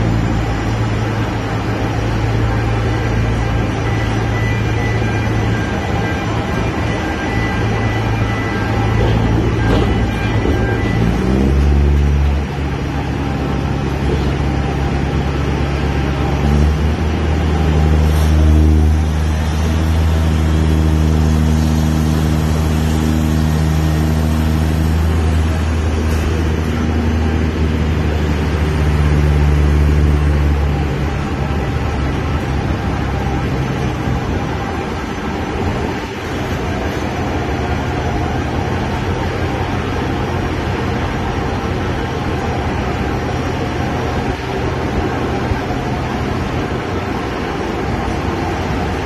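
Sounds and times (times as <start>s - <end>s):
crane engine and hoist machinery: 0.0s - 49.0s.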